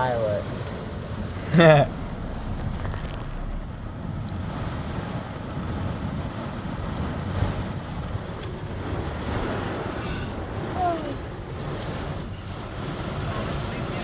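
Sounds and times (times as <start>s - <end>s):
wind rumbling on microphone: 0.8s - 14.0s
heavy rainstorm: 1.0s - 14.0s.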